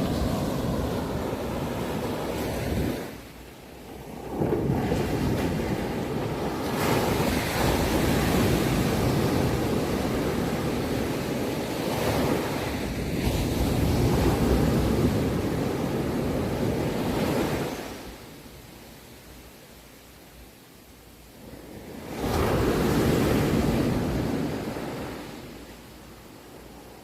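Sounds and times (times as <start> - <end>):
sea waves washing on shore: 0.0 - 27.0.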